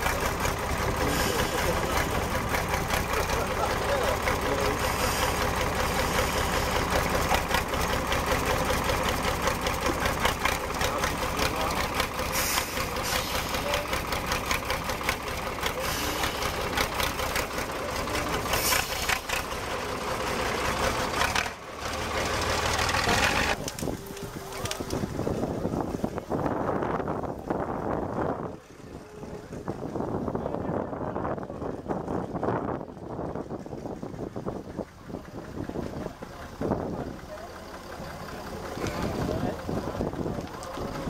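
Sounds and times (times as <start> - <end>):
diesel truck engine rattling: 0.0 - 41.0.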